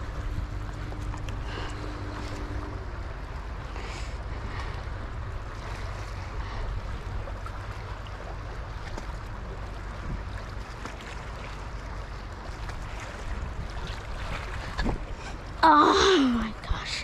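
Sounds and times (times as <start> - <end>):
moving water: 0.0 - 17.0
wind rumble on microphone: 0.0 - 17.0.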